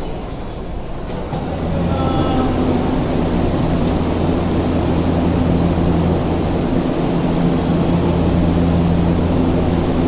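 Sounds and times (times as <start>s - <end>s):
train humming at platform: 0.0s - 10.0s.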